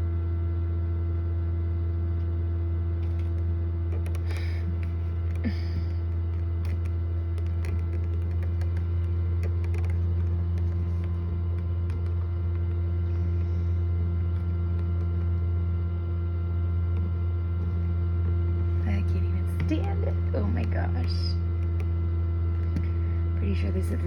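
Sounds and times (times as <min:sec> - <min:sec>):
incubator fan humming: 0:00.0 - 0:24.0.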